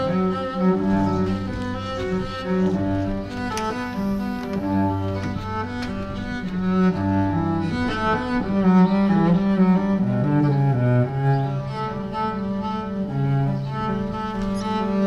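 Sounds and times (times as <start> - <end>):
bowed cello melody: 0.0 - 15.0.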